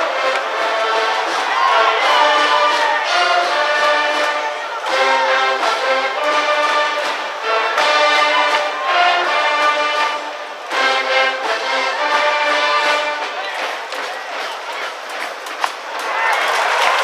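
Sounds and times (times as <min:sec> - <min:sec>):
brass band playing cheering tune: 0:00.0 - 0:17.0.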